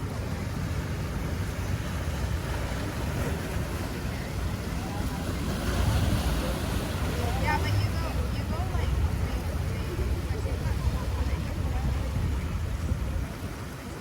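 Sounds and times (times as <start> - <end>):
ocean surf: 0.0 - 14.0
faint voices: 0.2 - 14.0
wind buffeting microphone: 0.3 - 14.0.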